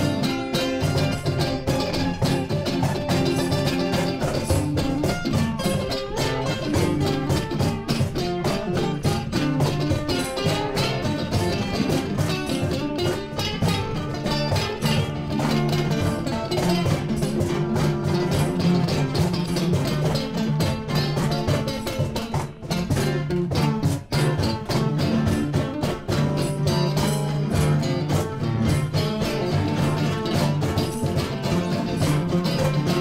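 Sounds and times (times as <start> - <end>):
acoustic guitar strummed fast: 0.0 - 33.0
percussion: 0.0 - 33.0.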